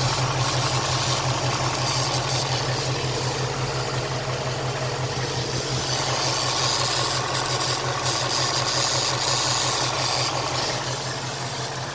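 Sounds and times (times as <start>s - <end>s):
car engine idling: 0.0s - 11.9s.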